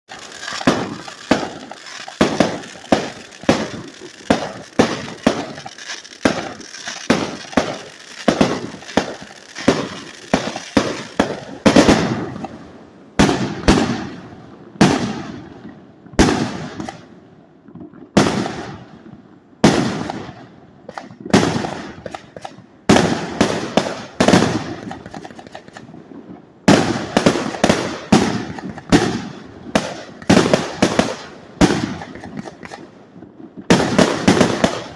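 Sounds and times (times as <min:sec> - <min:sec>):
fireworks bangs: 0:00.1 - 0:17.2, 0:18.2 - 0:34.9.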